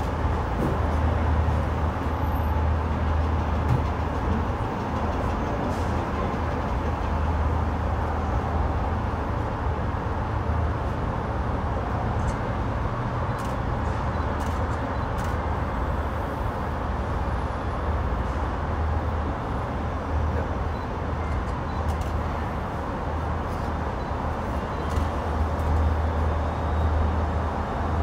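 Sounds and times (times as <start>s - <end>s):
cable car hum and rumble: 0.0s - 28.0s.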